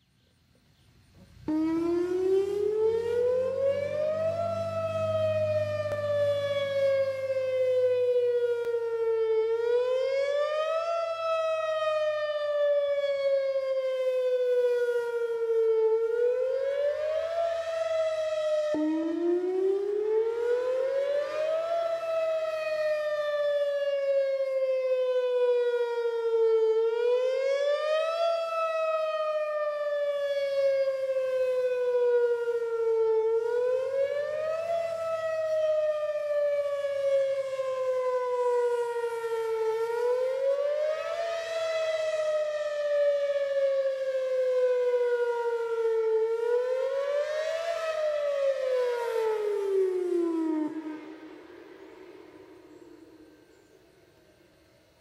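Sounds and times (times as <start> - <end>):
rotating warning siren wailing: 1.4 - 54.6.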